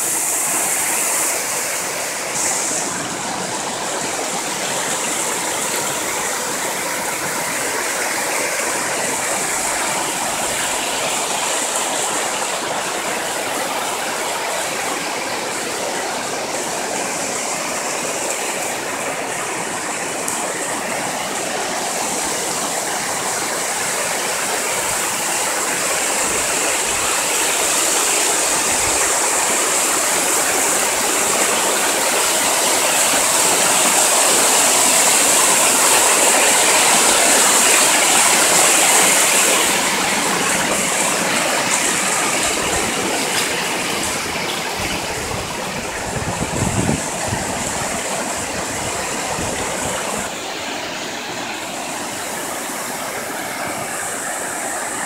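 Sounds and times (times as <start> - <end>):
waterfall rushing over rock: 0.0 - 55.0.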